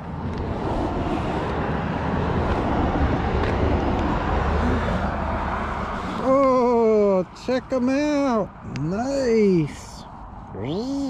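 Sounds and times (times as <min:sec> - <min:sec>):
road traffic rumble and hiss: 0:00.0 - 0:11.0.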